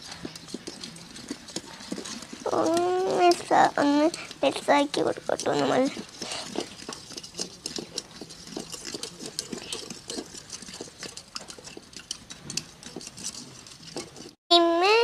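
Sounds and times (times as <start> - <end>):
slime stirring sticky clicks: 0.0 - 14.3.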